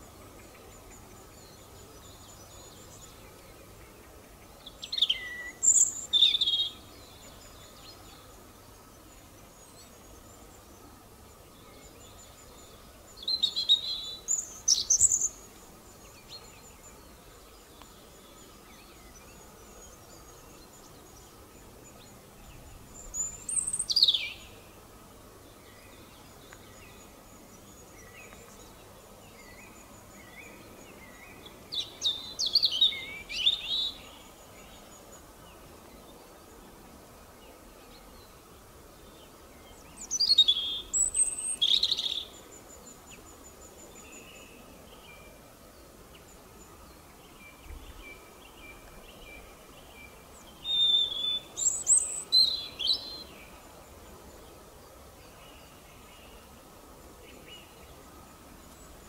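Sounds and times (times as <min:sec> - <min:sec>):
robin singing: 0:00.0 - 0:24.7, 0:25.7 - 0:35.0, 0:39.0 - 0:45.4, 0:46.1 - 0:54.5
faint steady background noise: 0:00.0 - 0:59.0.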